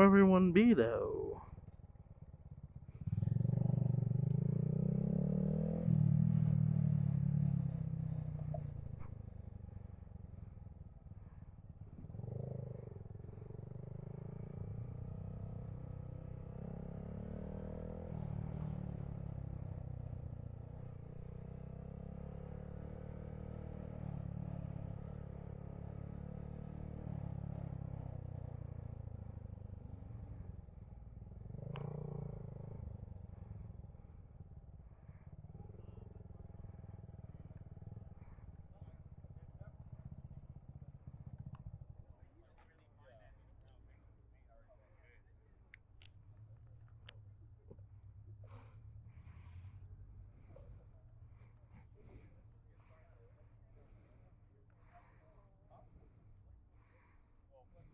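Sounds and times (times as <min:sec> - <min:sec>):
motorcycle engine running: 0:00.0 - 0:44.1, 0:45.4 - 0:57.9.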